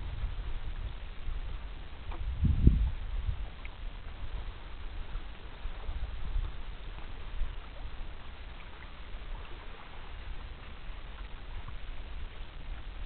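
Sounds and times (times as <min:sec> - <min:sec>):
lake water wash: 0:00.0 - 0:13.0
wind rumble on microphone: 0:00.0 - 0:13.0.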